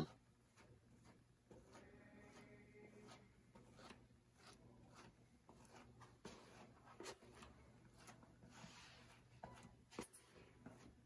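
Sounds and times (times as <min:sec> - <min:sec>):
spreader scraping body filler: 0:00.0 - 0:11.0.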